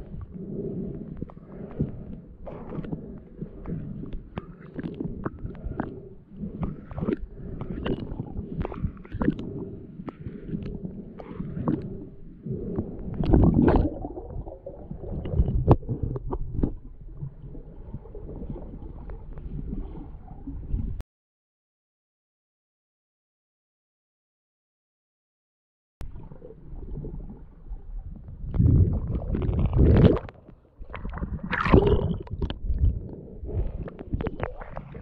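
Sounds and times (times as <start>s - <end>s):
water sloshing and gurgling underwater: 0.0s - 21.0s, 26.0s - 35.0s.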